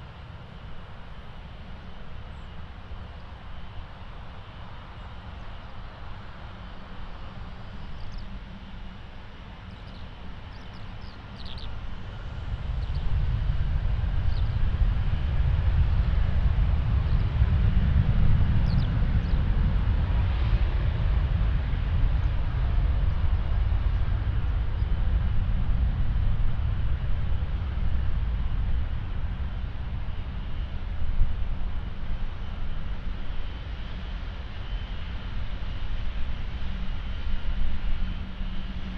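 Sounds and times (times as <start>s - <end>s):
jet engines at high thrust: 0.0s - 38.9s.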